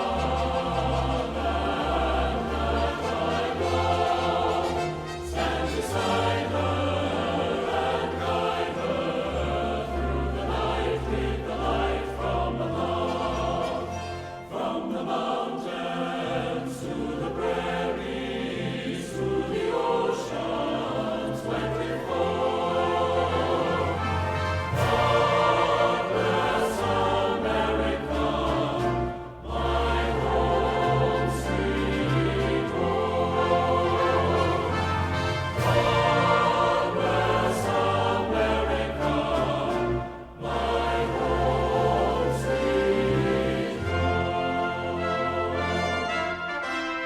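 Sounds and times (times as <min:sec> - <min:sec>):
choral music with orchestra: 0:00.0 - 0:47.0.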